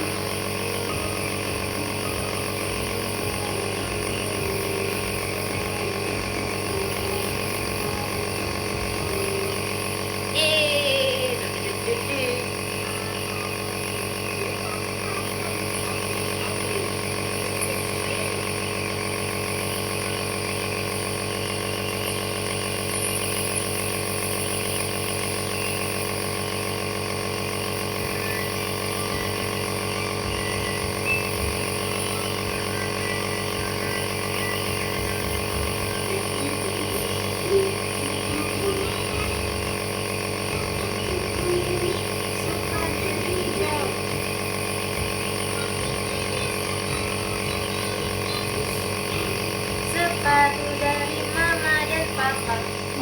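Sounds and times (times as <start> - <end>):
nebulizer compressor humming: 0.0 - 53.0.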